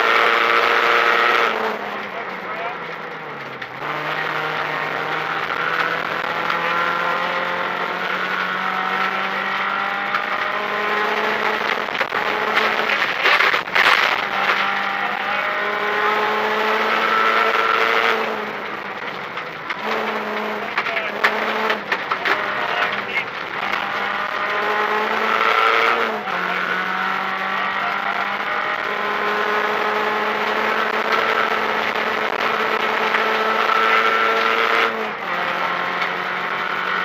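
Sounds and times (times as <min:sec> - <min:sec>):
rally car engine at high revs: 0:00.0 - 0:37.0
gravel crackling against car: 0:00.8 - 0:37.0.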